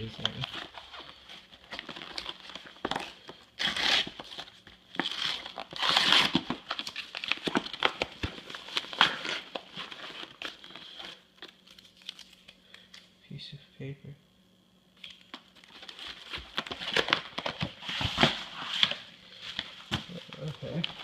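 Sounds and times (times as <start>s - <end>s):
paper packaging crinkling and tearing: 0.0s - 13.1s, 15.0s - 21.0s.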